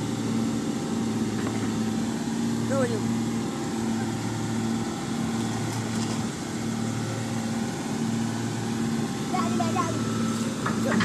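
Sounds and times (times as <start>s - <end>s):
pulsing machine engine hum: 0.0s - 11.0s.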